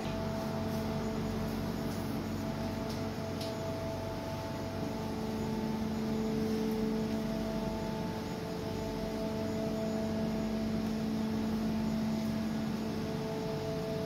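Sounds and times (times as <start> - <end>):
engine room machinery hum: 0.0 - 14.0.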